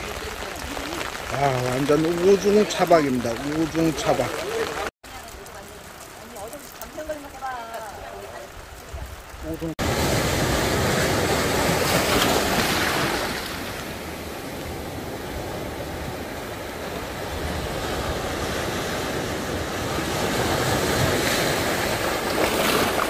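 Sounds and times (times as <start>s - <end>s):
sea waves breaking over rocks: 0.0s - 9.0s, 9.6s - 23.0s
water surging: 0.0s - 23.0s.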